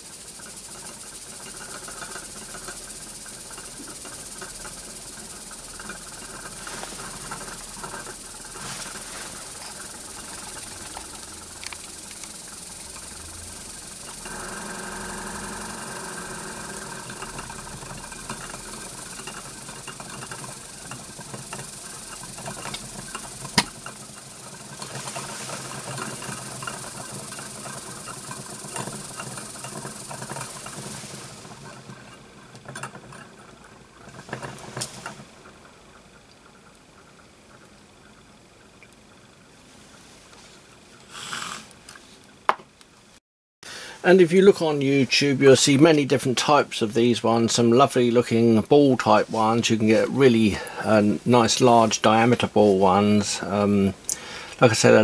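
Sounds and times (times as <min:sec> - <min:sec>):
steam hissing from jets: 0:00.0 - 0:37.2, 0:39.6 - 0:42.3, 0:43.6 - 0:55.0.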